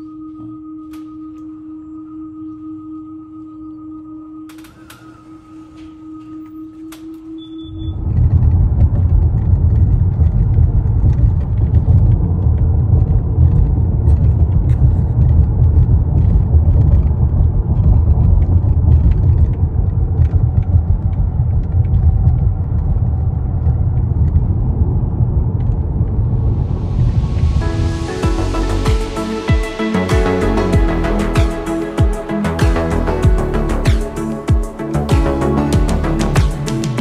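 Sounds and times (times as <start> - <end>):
car low rumble: 4.6 - 37.0.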